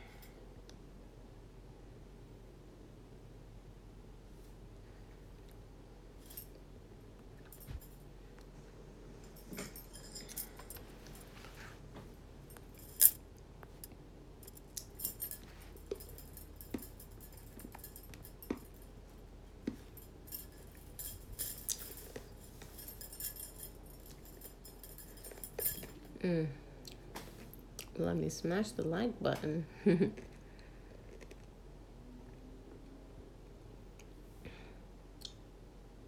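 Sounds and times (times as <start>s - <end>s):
faint room noise: 0.0s - 36.0s.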